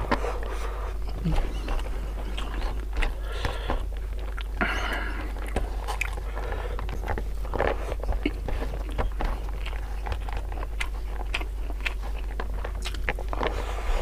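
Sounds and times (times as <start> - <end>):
man chewing with lip smacks: 0.0 - 14.0.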